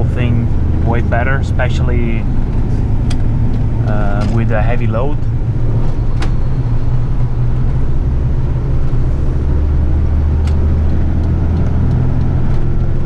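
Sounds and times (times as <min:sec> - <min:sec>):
road noise: 0:00.0 - 0:13.0
truck diesel engine droning: 0:00.0 - 0:13.0.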